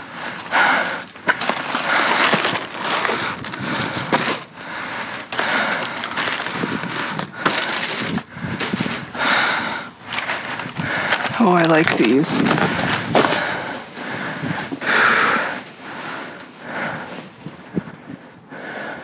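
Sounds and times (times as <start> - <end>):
plastic bags and cardboard rustling: 0.0 - 18.5.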